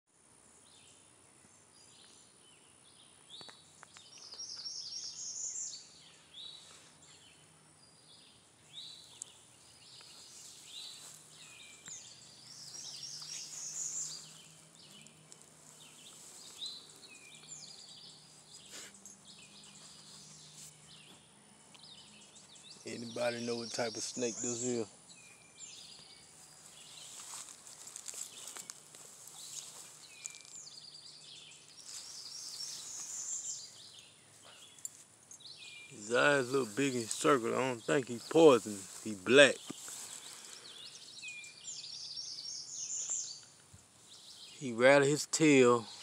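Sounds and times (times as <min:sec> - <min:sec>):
birds singing: 0:00.4 - 0:46.0.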